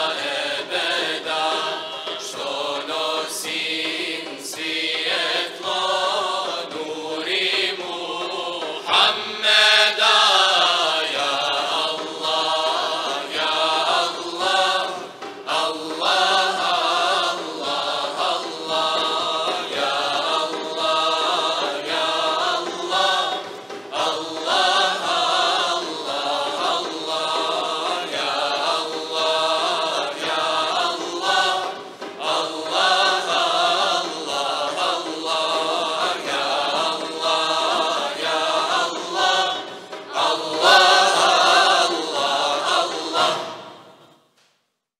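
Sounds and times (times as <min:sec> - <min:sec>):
hand drums: 0:00.0 - 0:44.0
choir singing a hymn: 0:00.0 - 0:44.1.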